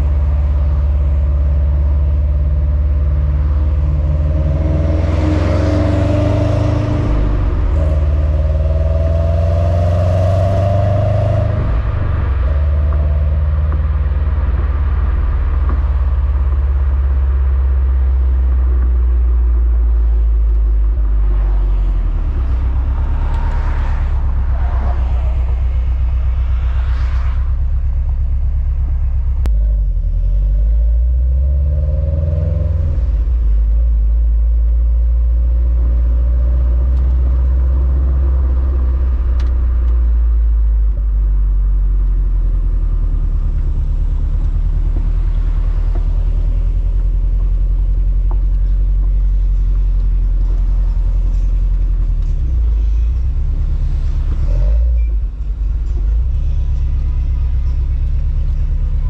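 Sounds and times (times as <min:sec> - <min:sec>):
car exhaust idling rumble: 0:00.0 - 0:59.0.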